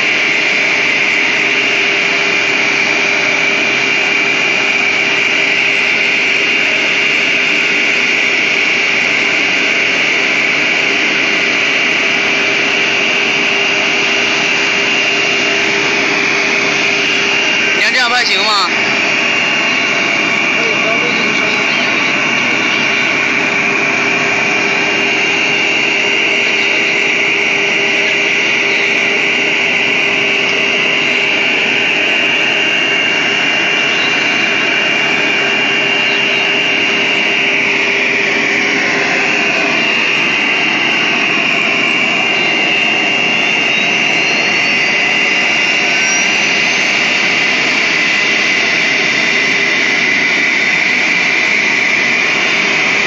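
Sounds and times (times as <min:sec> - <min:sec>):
cnc router spindle whine: 0:00.0 - 0:53.0.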